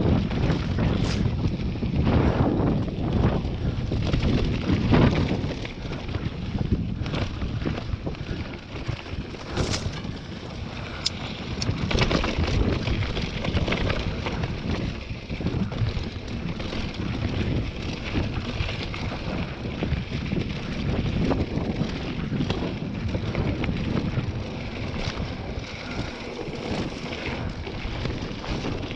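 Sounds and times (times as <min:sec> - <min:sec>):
bike clattering over bumps: 0:00.0 - 0:28.9
tyres rumbling on gravel: 0:00.0 - 0:28.9
wind buffeting microphone: 0:00.0 - 0:28.9.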